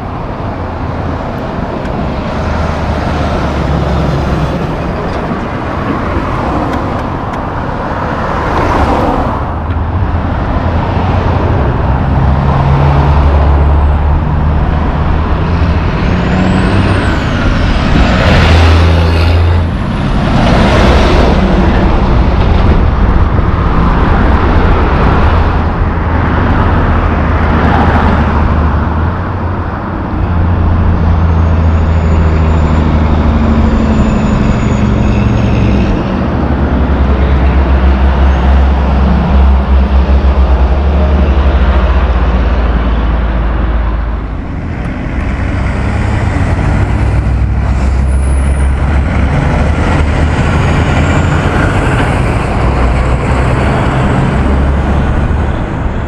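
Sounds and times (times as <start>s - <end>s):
trucks and cars passing: 0.0s - 56.0s.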